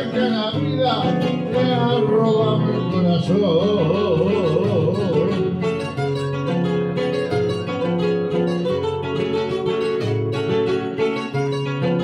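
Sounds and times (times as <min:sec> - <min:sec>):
acoustic guitar plucked melody: 0:00.0 - 0:12.0.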